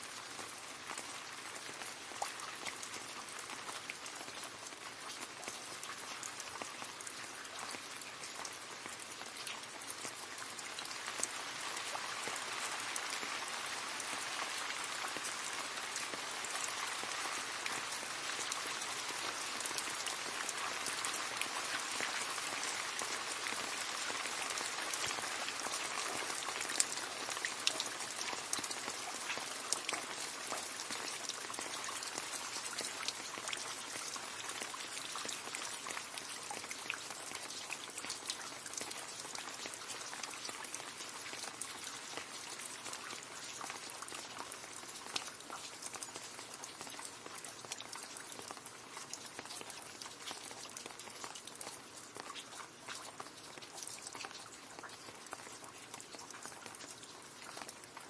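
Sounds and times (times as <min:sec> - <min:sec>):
rain splashing into puddle: 0:00.0 - 0:58.0.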